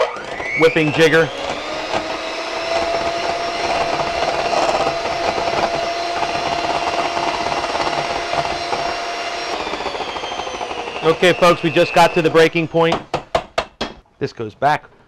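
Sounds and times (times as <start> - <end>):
electric hand mixer whining: 0.0 - 12.8.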